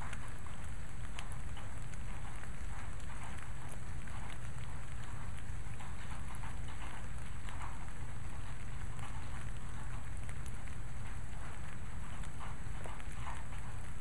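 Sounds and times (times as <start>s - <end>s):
constant low rumble: 0.0s - 14.0s
raindrops pattering: 0.0s - 14.0s.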